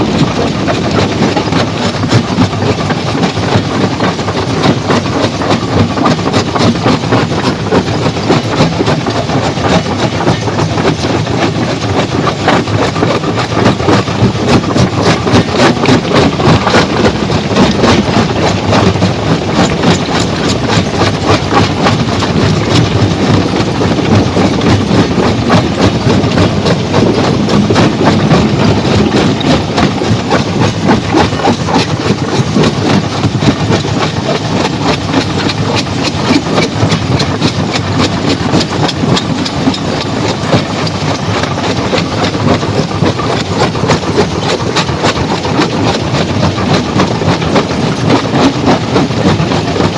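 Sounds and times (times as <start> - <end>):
engine drone: 0.0 - 49.9
fast rattle of knocks: 0.0 - 49.9.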